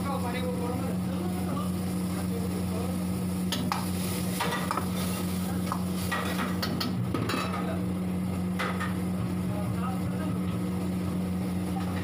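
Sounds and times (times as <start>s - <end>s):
gravy sizzling: 0.0s - 12.0s
steady low hum: 0.0s - 12.0s.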